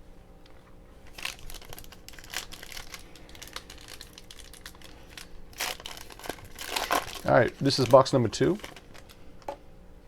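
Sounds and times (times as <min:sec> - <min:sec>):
plastic wrap crinkling: 0:01.1 - 0:09.2.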